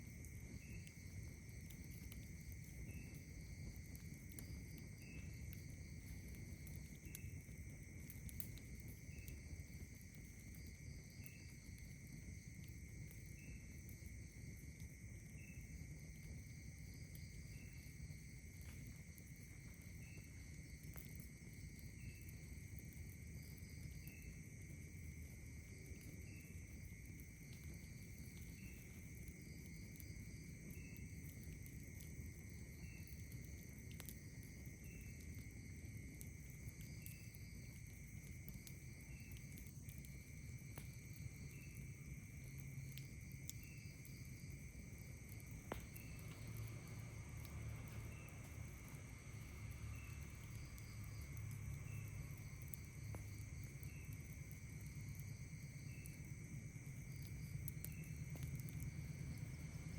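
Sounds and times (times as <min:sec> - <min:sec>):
campfire crackling: 0:00.0 - 0:59.9
low steady rumble: 0:00.0 - 0:59.9
night insects trilling: 0:00.0 - 0:59.9
short insect chirp: 0:00.0 - 0:59.9.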